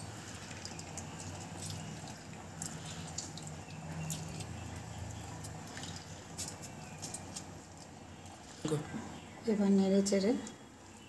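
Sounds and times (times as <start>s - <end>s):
juice dripping into water: 0.0s - 8.9s.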